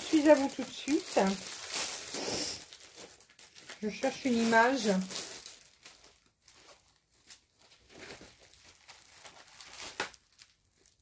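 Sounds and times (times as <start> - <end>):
faint rustling and crinkling: 0.0 - 11.0.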